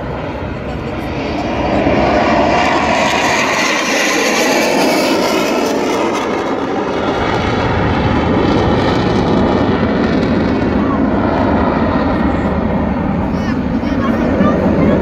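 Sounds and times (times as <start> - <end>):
jet fighter flying past: 0.0 - 15.0.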